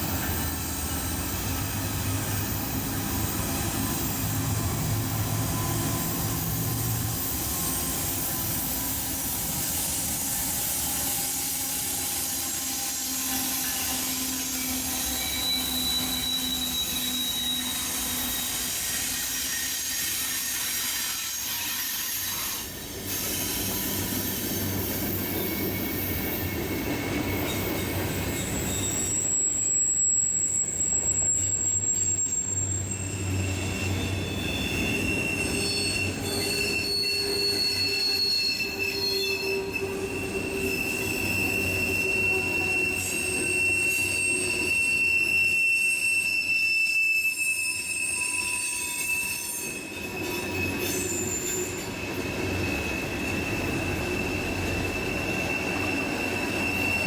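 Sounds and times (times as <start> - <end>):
high-pitched wheel squeals: 0.0 - 57.0
train cars rolling on rails: 0.0 - 57.0.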